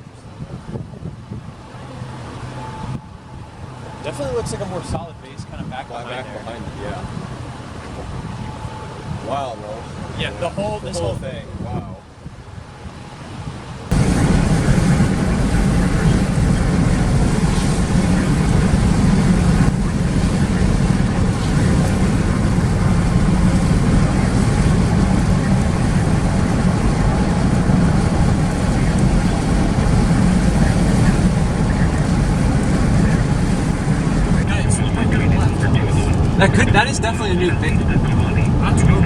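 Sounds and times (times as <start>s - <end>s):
road and wind noise in car: 0.0s - 39.0s.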